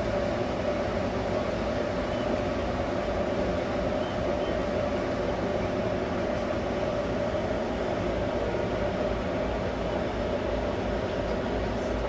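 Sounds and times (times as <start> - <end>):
even machinery hum: 0.0 - 12.0.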